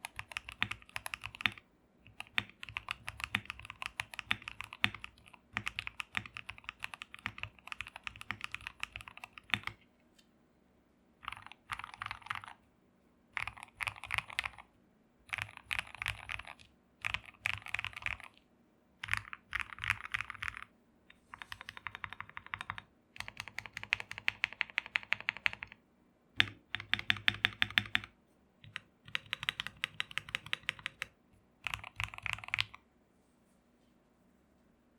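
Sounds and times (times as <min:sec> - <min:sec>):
mechanical keyboard typing: 0:00.0 - 0:09.8, 0:11.2 - 0:12.6, 0:13.4 - 0:14.7, 0:15.3 - 0:18.4, 0:19.0 - 0:20.7, 0:21.3 - 0:25.8, 0:26.4 - 0:32.8.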